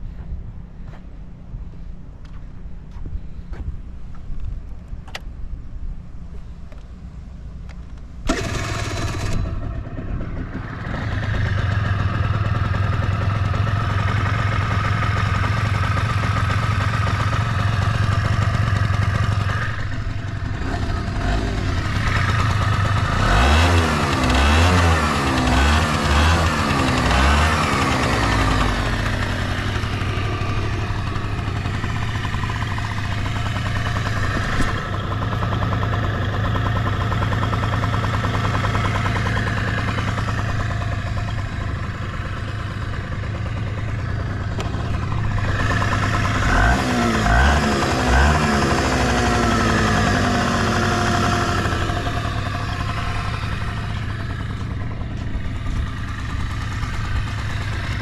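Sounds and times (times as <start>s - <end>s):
scooter engine idling: 7.0s - 58.0s.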